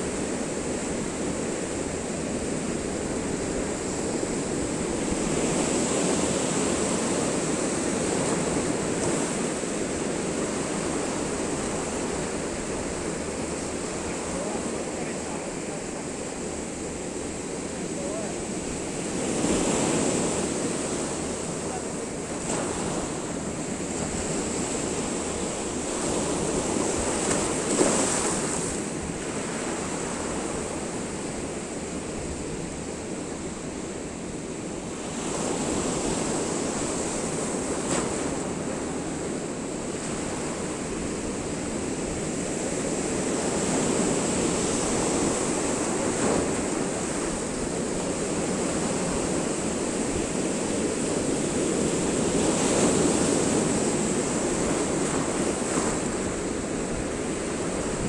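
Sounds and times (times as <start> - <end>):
waves breaking against a seawall: 0.0 - 58.0.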